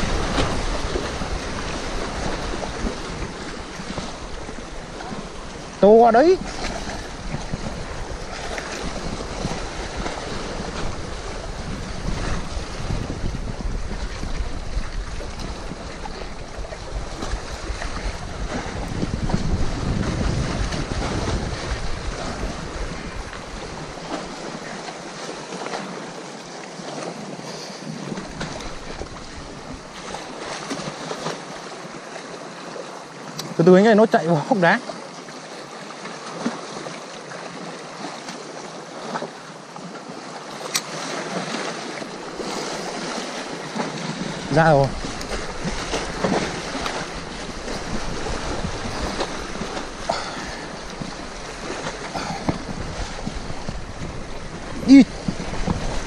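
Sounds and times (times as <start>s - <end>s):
wind buffeting microphone: 0.0s - 26.0s, 27.0s - 32.0s, 41.3s - 56.0s
waves against rocky shore: 0.0s - 56.0s.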